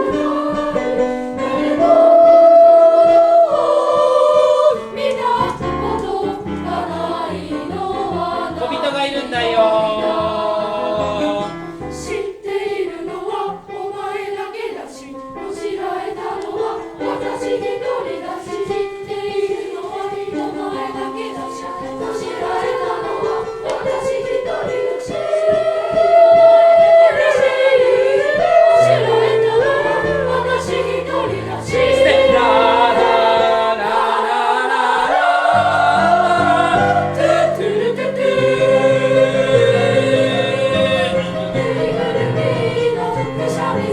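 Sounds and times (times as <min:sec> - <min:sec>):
children's choir singing: 0:00.0 - 0:43.9
keyboard accompaniment: 0:00.0 - 0:43.9.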